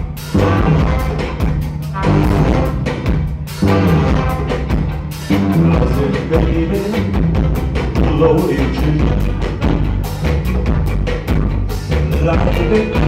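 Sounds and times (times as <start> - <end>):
live reggae band playing: 0.0 - 13.0.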